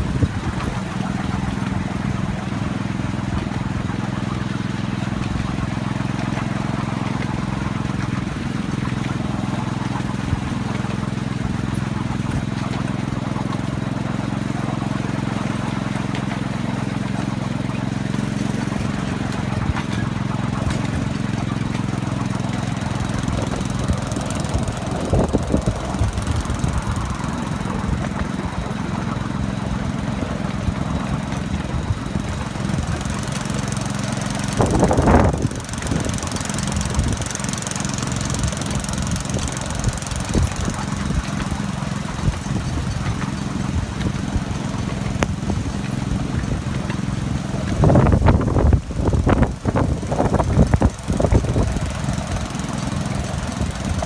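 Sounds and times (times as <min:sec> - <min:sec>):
small locomotive engine running: 0:00.0 - 0:54.0
wheels clicking on rails: 0:00.0 - 0:54.0.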